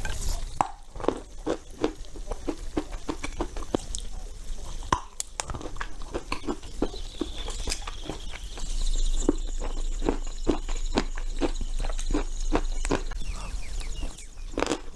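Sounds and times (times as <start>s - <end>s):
crunchy chewing: 0.0s - 14.9s.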